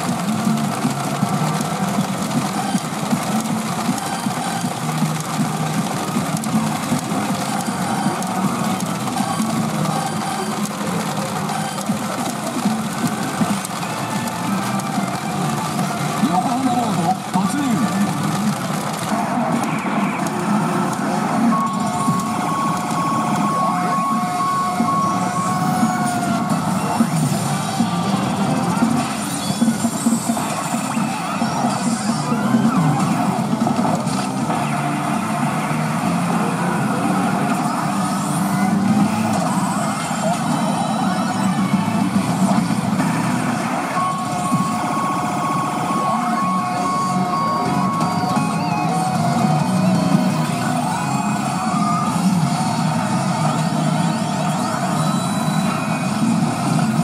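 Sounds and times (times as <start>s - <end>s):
machine electronic tones: 0.0s - 57.0s.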